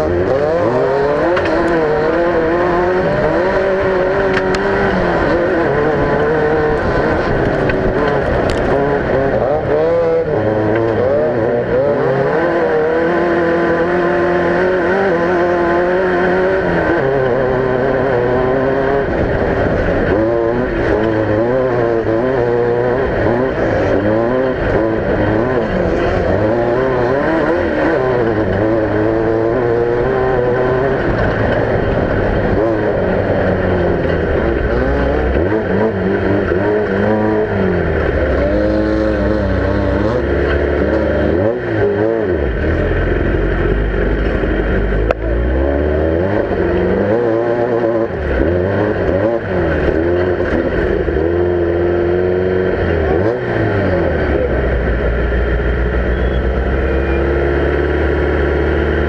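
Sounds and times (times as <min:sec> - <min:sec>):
race vehicle engine revving: 0:00.0 - 0:59.0.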